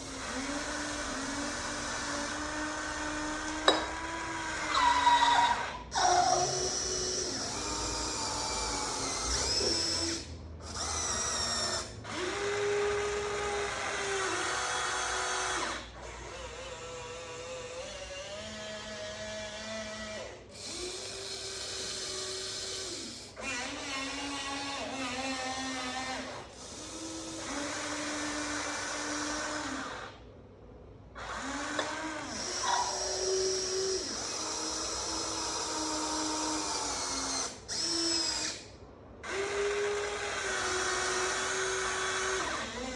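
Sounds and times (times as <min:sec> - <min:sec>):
small electric motors whining: 0:00.0 - 0:30.2, 0:31.2 - 0:42.9.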